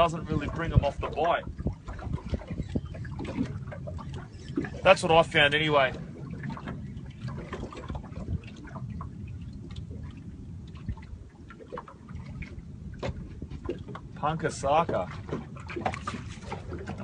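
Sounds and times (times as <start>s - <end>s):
water lapping against boat hull: 0.0s - 17.0s.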